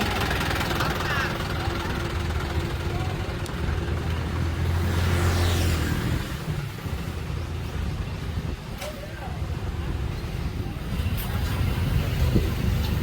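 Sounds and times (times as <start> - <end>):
motor vehicle engine rumbling: 0.0 - 13.0.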